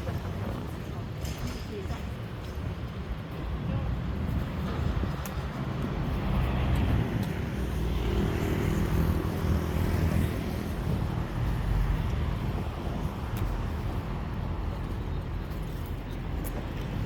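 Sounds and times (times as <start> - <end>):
low rumble of road noise: 0.0 - 17.0.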